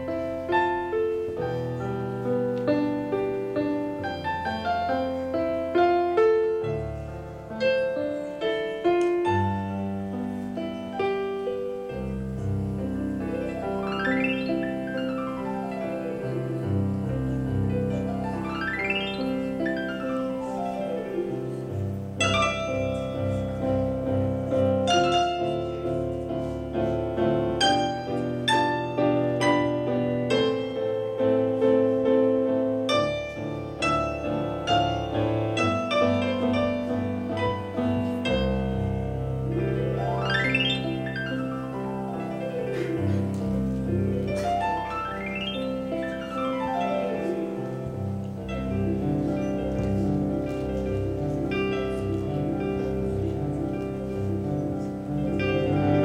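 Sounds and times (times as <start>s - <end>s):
digital piano piece: 0.0s - 56.0s.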